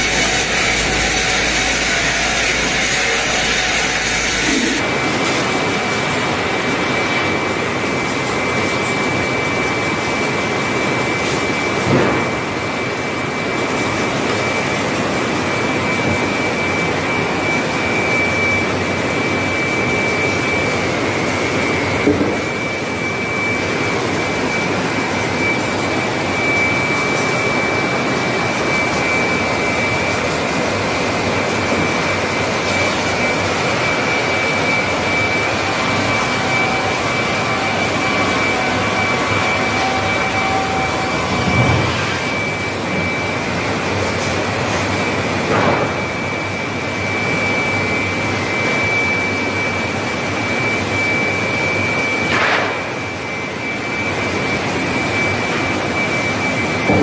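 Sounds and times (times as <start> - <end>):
high saw whine: 0.0 - 57.0
sawmill machinery roar: 0.0 - 57.0.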